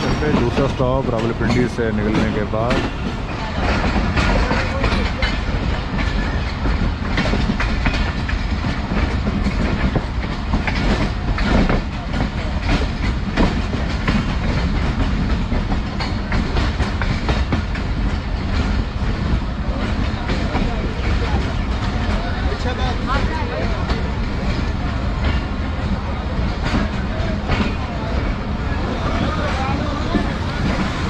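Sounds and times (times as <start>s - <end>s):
train wheels clickety-clack: 0.0s - 31.0s.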